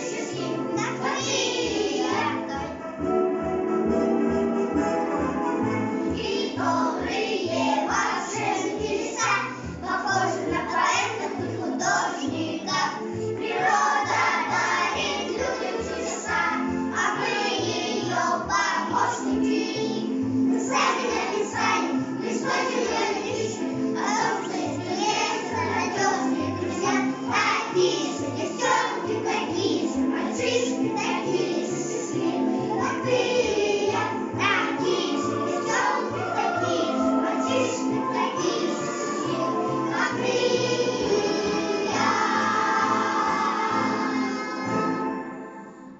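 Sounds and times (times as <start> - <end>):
children singing: 0.0 - 4.2, 4.9 - 45.6.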